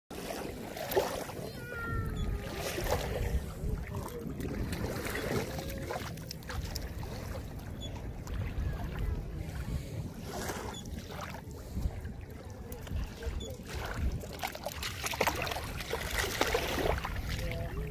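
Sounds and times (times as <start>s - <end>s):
moving water: 0.1s - 17.9s
water splashes: 0.1s - 17.9s
wind buffeting microphone: 1.3s - 17.9s.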